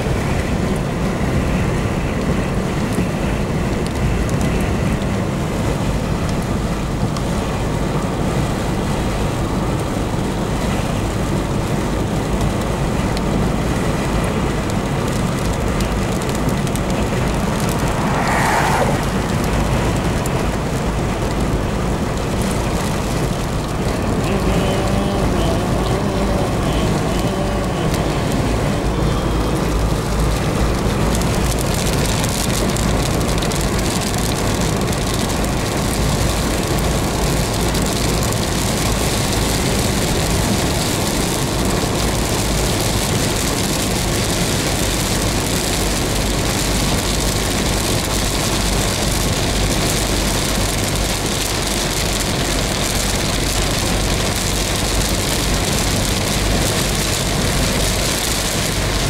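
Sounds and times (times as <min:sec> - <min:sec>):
engine and tyres rumbling: 0:00.0 - 0:59.0
rain hitting windscreen and roof: 0:00.0 - 0:59.0.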